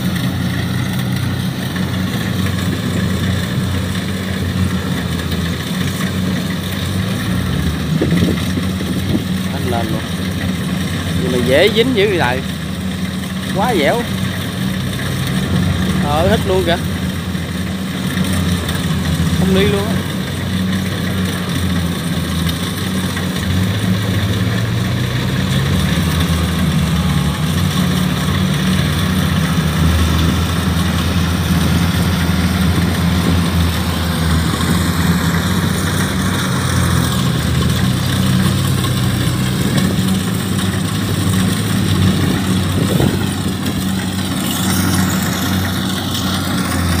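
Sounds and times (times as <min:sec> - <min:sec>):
combine harvester diesel engine: 0:00.0 - 0:47.0.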